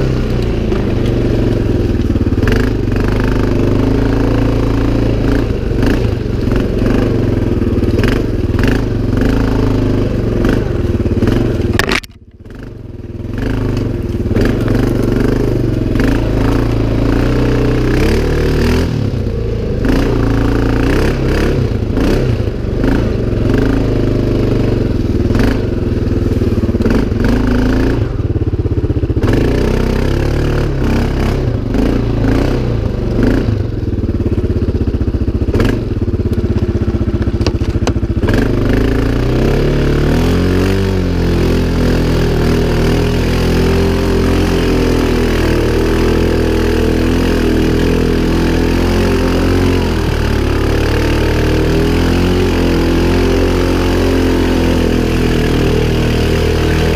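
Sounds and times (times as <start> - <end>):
atv engine running under load: 0.0 - 56.9.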